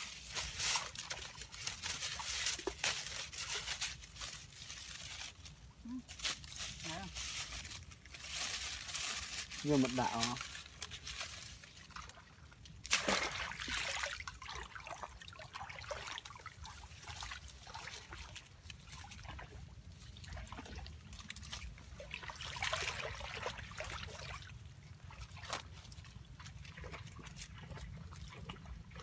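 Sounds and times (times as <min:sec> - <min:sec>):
muddy water splashing: 0:00.0 - 0:29.0.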